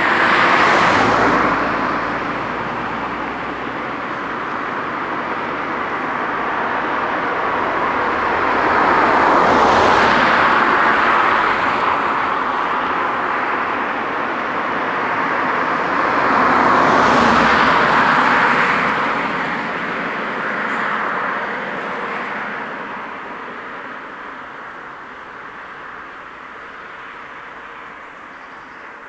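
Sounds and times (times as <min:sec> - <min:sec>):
cars driving past on asphalt: 0:00.0 - 0:29.0.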